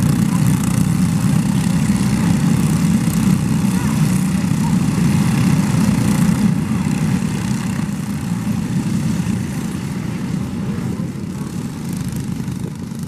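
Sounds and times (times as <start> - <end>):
go-kart engines buzzing: 0.0 - 13.0.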